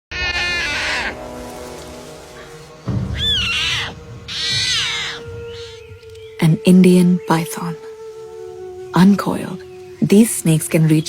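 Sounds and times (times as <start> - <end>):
tiger cub calling: 0.1 - 1.4, 2.4 - 10.2
soft background music: 0.2 - 11.0.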